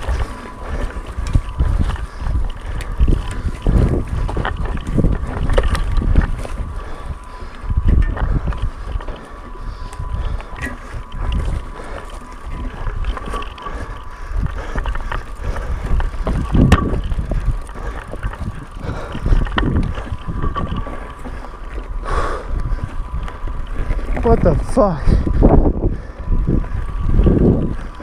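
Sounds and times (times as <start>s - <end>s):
bike rattling and knocking: 0.0s - 28.0s
wind buffeting microphone: 0.0s - 28.0s.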